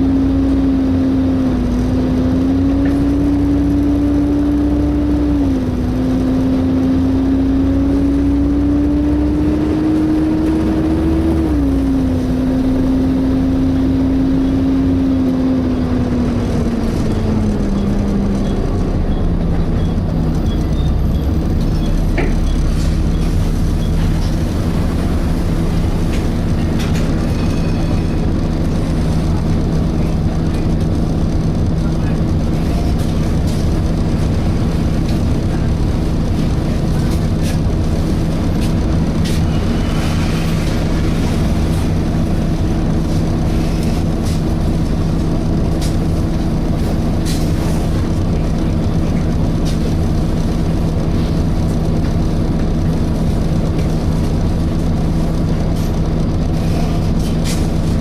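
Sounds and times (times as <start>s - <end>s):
bus drivetrain whine: 0.0s - 58.0s.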